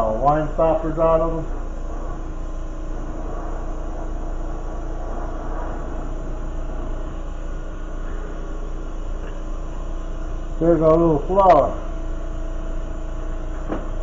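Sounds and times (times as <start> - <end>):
faint steady hum: 0.0 - 14.0
torch flame roaring: 0.0 - 14.0.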